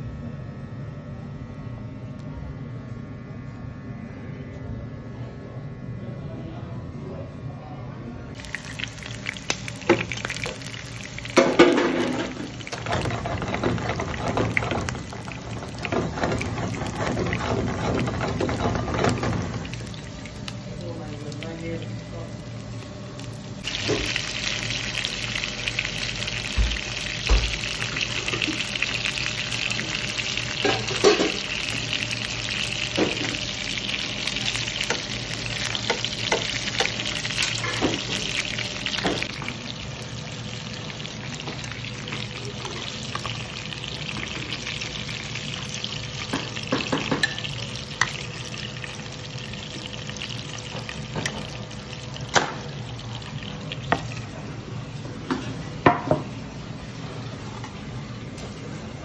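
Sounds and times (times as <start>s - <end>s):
prawns frying in hot oil: 8.3s - 59.0s.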